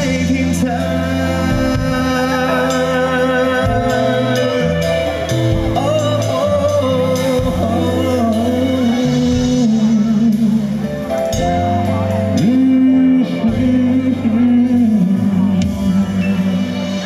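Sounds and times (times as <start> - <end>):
live pop-rock band: 0.0 - 17.0
man singing: 0.0 - 17.0.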